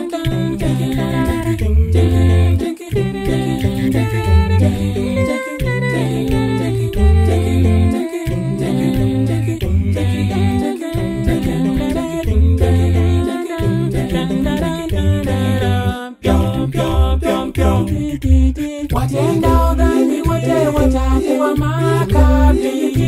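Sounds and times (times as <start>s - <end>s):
male group singing in harmony: 0.0s - 23.0s
deep bass voice: 0.3s - 22.6s.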